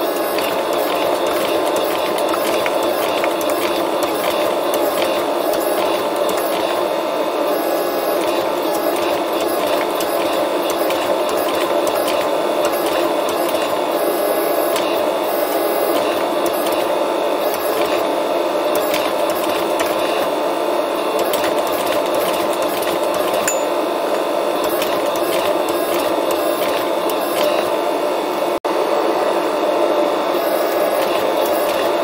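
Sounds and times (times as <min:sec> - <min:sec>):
forging machine drone: 0:00.0 - 0:28.5.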